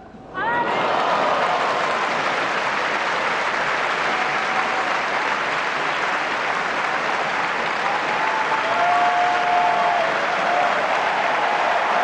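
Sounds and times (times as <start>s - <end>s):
crowd applauding: 0.6s - 12.0s.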